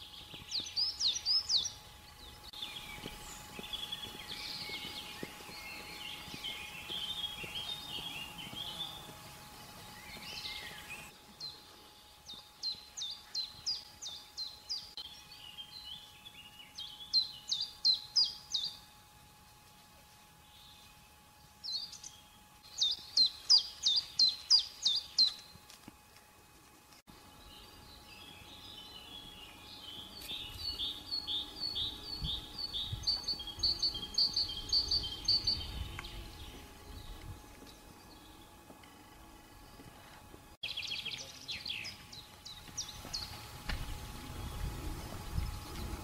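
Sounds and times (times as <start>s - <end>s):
small songbirds singing: 0.0s - 18.8s, 20.4s - 25.6s, 27.2s - 38.6s, 40.6s - 46.0s
faint steady hum: 0.0s - 46.0s.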